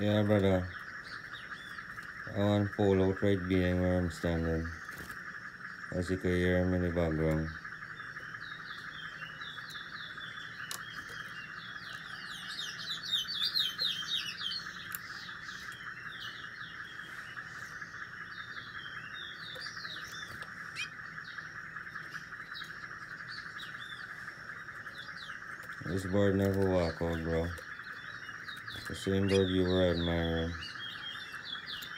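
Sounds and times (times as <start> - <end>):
songbird twittering chirps: 0.0 - 31.9.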